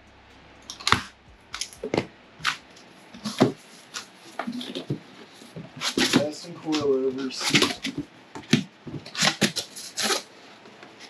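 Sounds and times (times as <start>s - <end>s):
packaging rustling and scraping: 1.6s - 11.0s.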